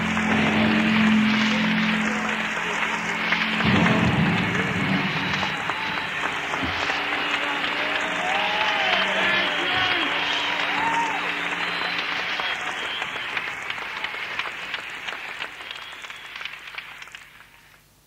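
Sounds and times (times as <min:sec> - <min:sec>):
audience applauding and cheering: 0:00.0 - 0:17.9
whistles and shouts: 0:00.5 - 0:17.1.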